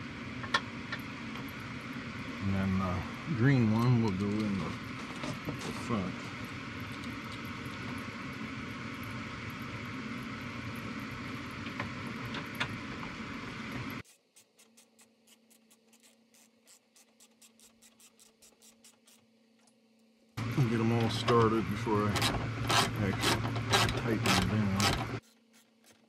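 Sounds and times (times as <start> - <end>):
background hiss and hum: 0.0 - 26.0.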